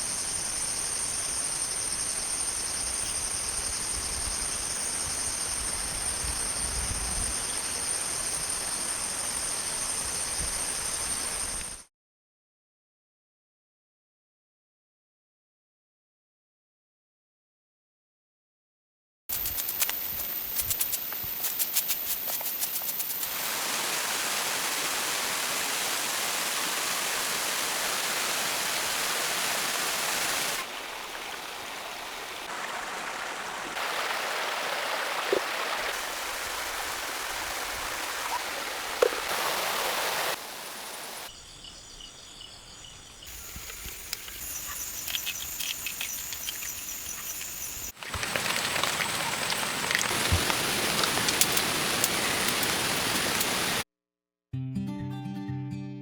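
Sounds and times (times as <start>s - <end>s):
high insect calls: 0.0s - 11.8s, 19.3s - 53.8s
running water hiss: 0.0s - 11.8s, 19.3s - 53.8s.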